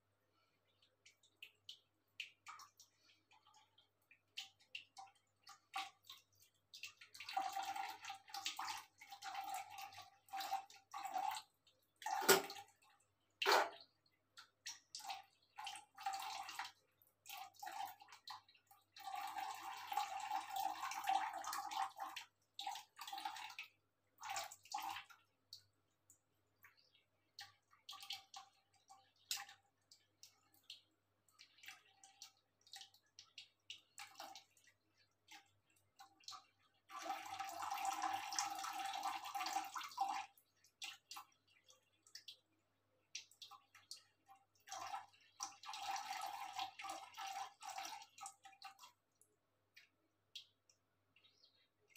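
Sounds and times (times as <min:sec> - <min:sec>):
cats lapping water: 0:00.2 - 0:51.9.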